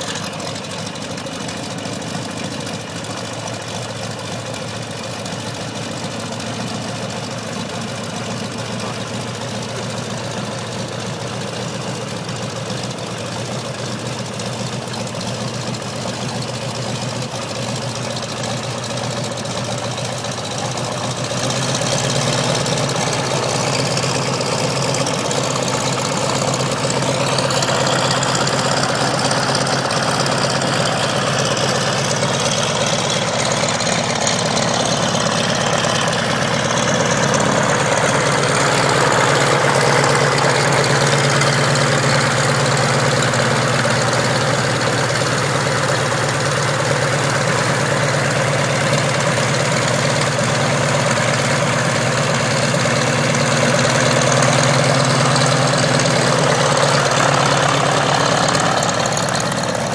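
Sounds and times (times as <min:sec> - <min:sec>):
radial aircraft engine idling: 0:00.0 - 0:59.9.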